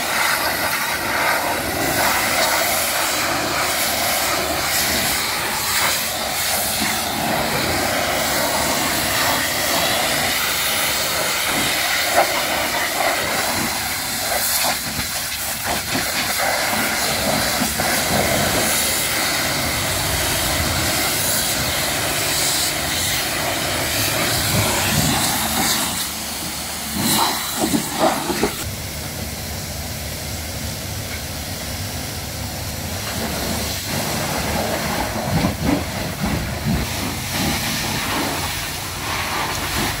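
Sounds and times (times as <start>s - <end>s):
pressure washer spraying metal: 0.0s - 40.0s.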